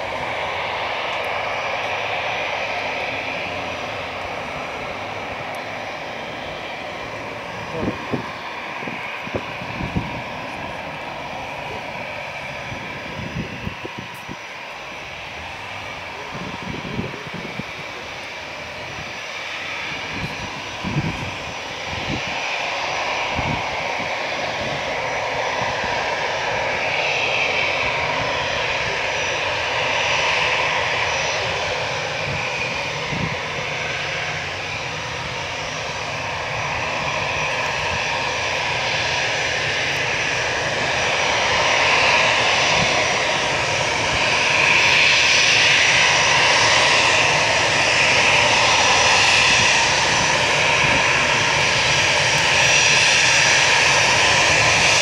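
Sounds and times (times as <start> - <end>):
high-pitched jet whine: 0.0 - 55.0
jet engines taxiing: 0.0 - 55.0.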